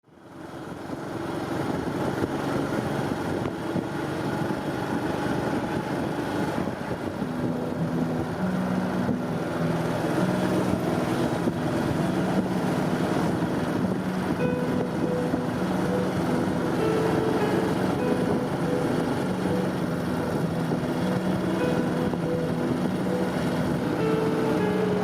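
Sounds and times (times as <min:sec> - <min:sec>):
motorcycle engine running: 0:00.1 - 0:25.0
wind buffeting microphone: 0:00.7 - 0:25.0.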